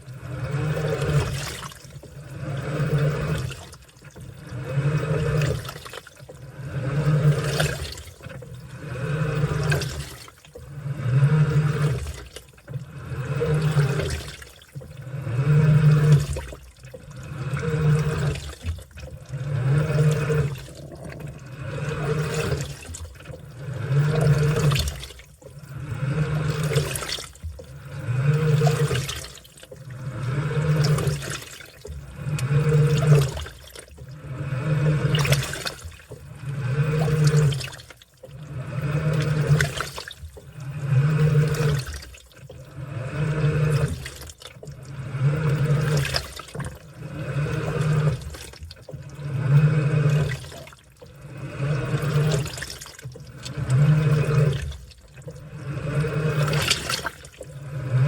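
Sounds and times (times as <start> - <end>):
washing machine churning water: 0.0 - 58.0.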